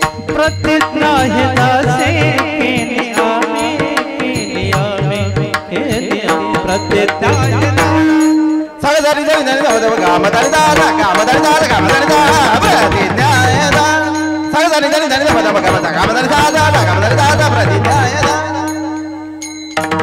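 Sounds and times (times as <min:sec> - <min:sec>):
wavering sung melody: 0:00.0 - 0:19.8.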